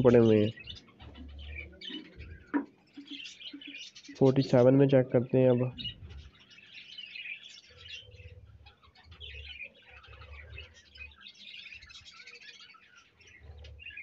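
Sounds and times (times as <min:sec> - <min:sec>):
budgerigars chirping and chattering: 0:00.0 - 0:14.0.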